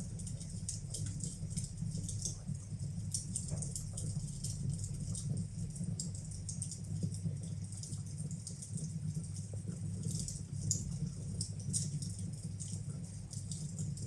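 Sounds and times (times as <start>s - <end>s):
fire crackling and popping: 0.0s - 14.0s
low fire rumble: 0.0s - 14.0s.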